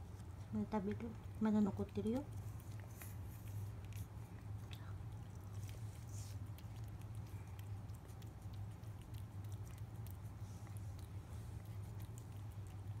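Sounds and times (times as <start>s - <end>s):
steady low hum: 0.0s - 13.0s
cat licking wet tongue clicks: 2.2s - 13.0s.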